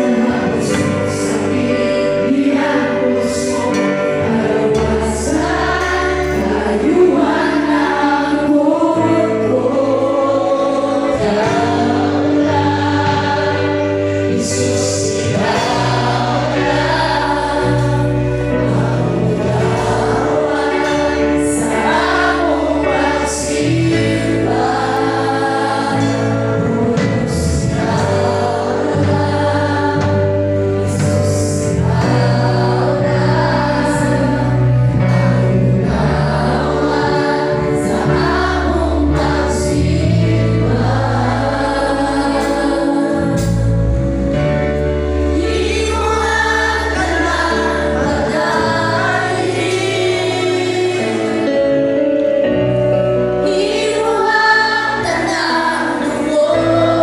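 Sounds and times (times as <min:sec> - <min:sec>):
bass line: 0:00.0 - 0:57.0
congregation singing: 0:00.0 - 0:57.0
held instrumental chords: 0:00.0 - 0:57.0.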